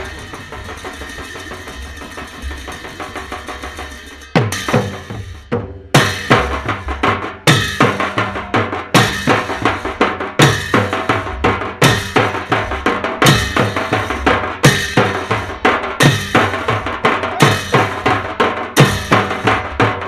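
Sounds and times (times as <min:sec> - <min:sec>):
folk drumming: 0:00.0 - 0:20.0.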